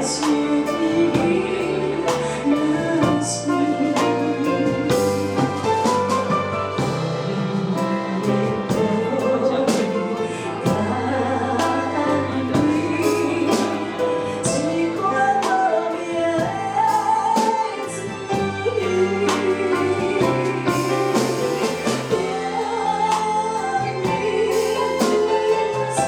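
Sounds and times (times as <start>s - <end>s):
person singing: 0.0s - 26.0s.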